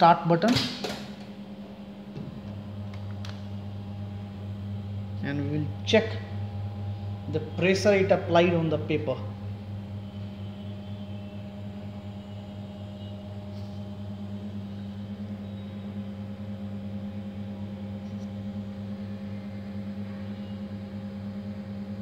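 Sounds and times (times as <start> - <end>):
machine humming steadily: 0.0 - 22.0.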